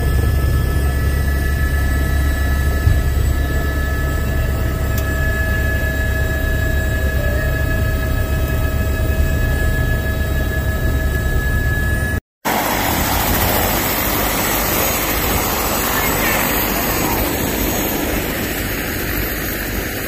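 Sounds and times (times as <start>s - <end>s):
helicopter rotor drone: 0.0s - 20.0s
high-pitched turbine whine: 0.0s - 20.0s.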